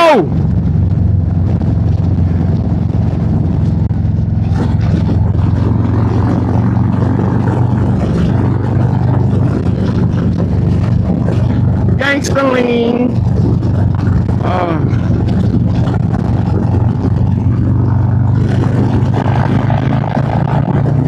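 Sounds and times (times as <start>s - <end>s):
motorcycle engine running hard: 0.0s - 21.0s.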